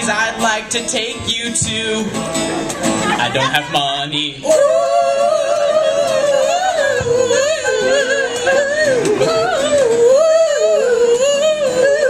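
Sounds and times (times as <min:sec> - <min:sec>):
man singing wordlessly: 0:00.0 - 0:02.4, 0:03.2 - 0:12.0
acoustic guitar strumming: 0:00.0 - 0:12.0.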